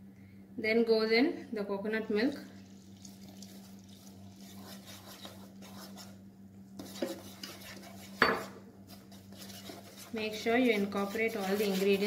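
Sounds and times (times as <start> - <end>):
hand mixing batter in steel bowl: 2.1 - 12.0.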